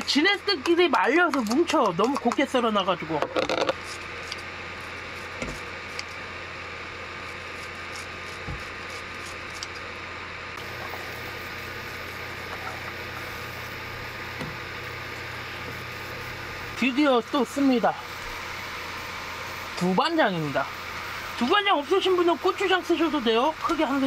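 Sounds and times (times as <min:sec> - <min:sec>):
induction cooktop humming: 0:00.0 - 0:24.0.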